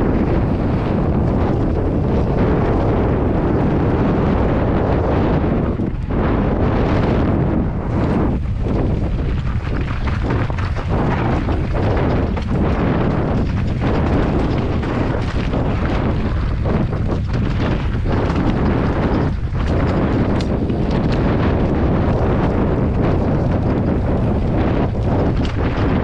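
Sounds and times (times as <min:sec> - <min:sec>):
bike rattling over stones: 0:00.0 - 0:26.0
wind buffeting microphone: 0:00.0 - 0:26.0.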